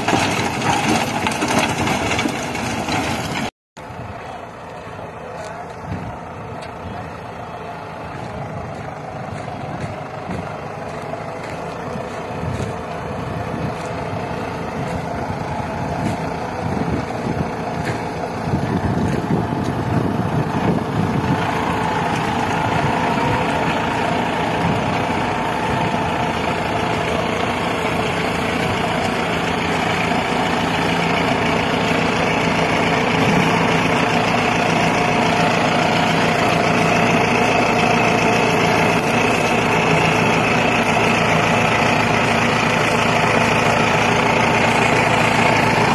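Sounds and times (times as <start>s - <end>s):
diesel tractor engine under load: 0.0s - 45.9s.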